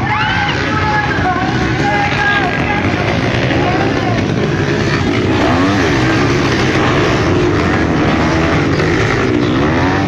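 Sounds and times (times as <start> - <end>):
motocross motorcycle engines revving: 0.0 - 10.0.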